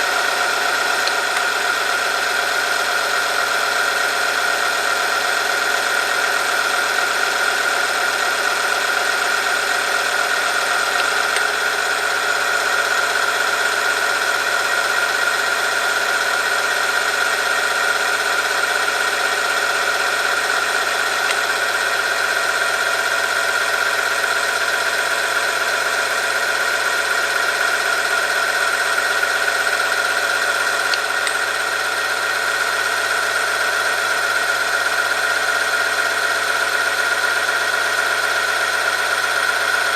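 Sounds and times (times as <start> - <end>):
machine high whine: 0.0 - 39.9.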